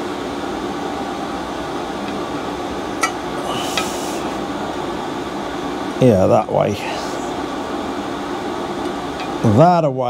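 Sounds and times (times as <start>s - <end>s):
fan-like workshop hum: 0.0s - 10.0s.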